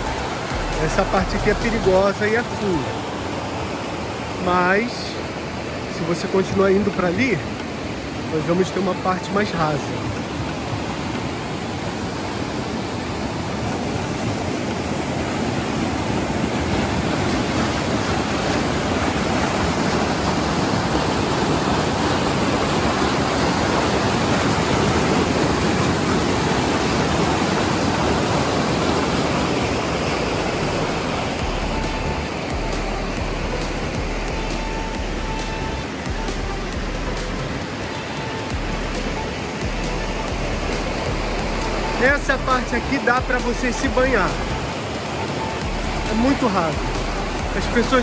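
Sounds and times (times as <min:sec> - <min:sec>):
stream water rushing over rocks: 0:00.0 - 0:48.0.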